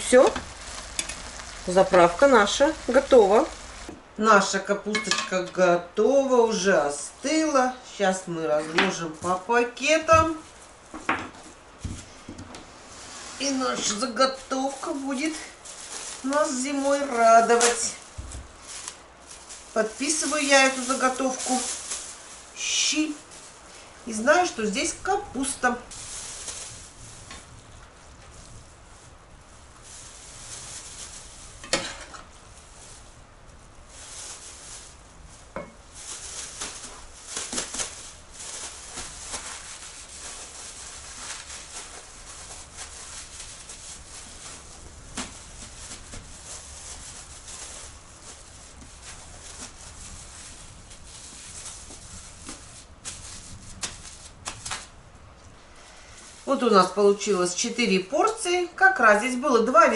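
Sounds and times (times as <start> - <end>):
plastic bags crinkling: 0.0 - 3.9, 12.9 - 57.0.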